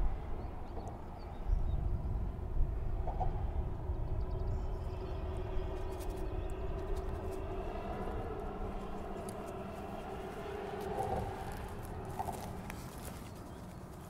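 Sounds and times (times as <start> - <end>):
engine drone: 2.1 - 14.0.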